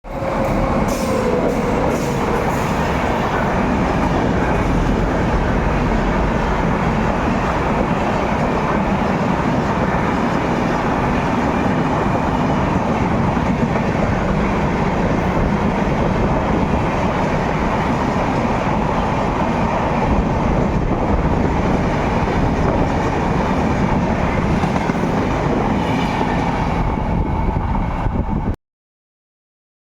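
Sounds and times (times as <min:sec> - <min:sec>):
train coaches rumbling on rails: 0:00.0 - 0:28.6.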